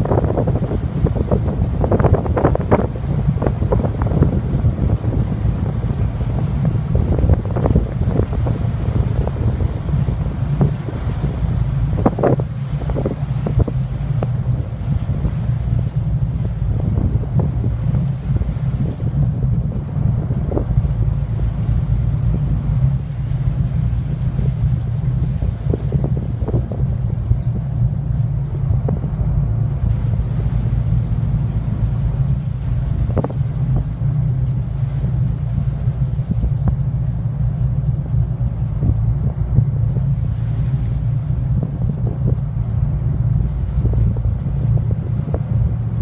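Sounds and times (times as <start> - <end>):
boat engines rumbling: 0.0 - 46.0
wind buffeting microphone: 0.0 - 46.0.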